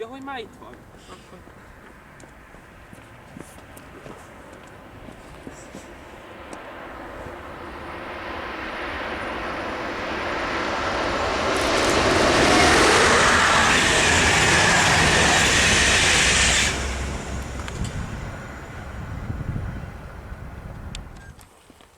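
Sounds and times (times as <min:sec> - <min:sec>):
train passing at speed: 0:00.4 - 0:21.2.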